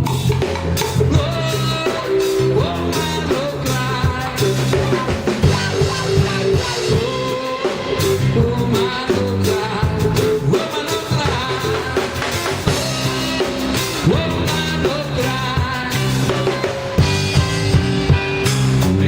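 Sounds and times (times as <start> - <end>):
drum kit beat: 0.0 - 19.0
melodic lead line: 0.0 - 19.0
reggae band playing: 0.0 - 19.0.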